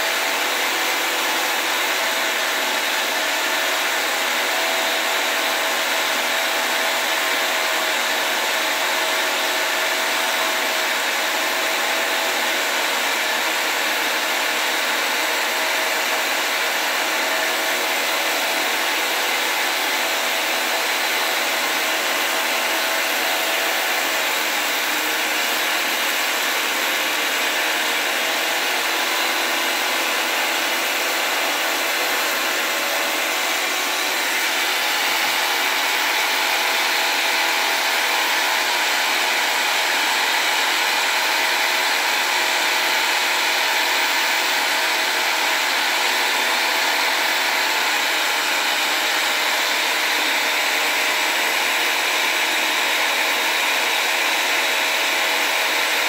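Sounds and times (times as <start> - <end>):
power saw cutting metal: 0.0 - 56.0.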